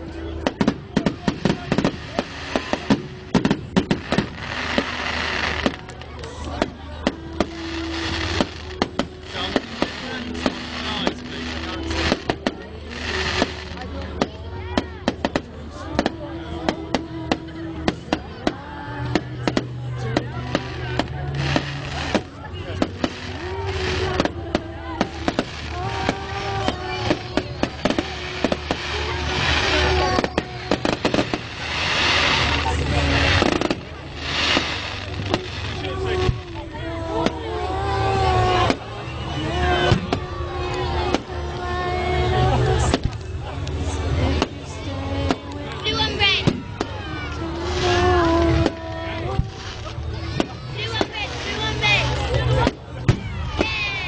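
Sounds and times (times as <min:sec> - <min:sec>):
fireworks bangs and crackles: 0:00.0 - 0:54.0
fireworks hissing: 0:00.1 - 0:14.4, 0:16.9 - 0:42.0, 0:45.2 - 0:54.0
fireworks pops: 0:00.4 - 0:36.6, 0:38.6 - 0:38.9, 0:42.8 - 0:44.6, 0:45.2 - 0:46.9, 0:47.8 - 0:54.0.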